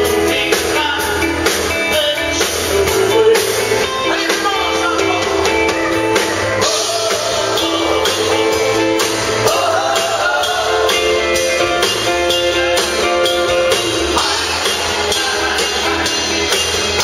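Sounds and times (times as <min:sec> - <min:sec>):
man singing: 0:00.0 - 0:05.7, 0:06.5 - 0:11.9, 0:13.0 - 0:17.0
drum kit: 0:00.0 - 0:17.0.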